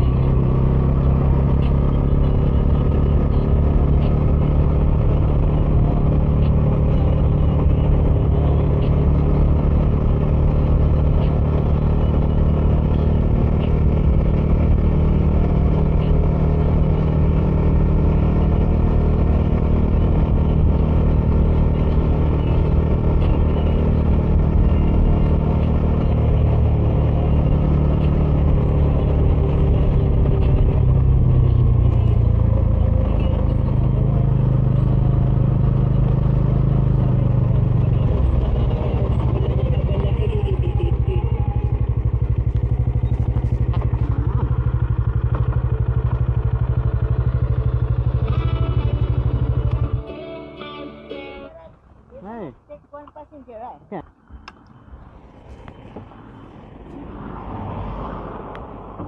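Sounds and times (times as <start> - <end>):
motorcycle engine running: 0.0 - 57.5.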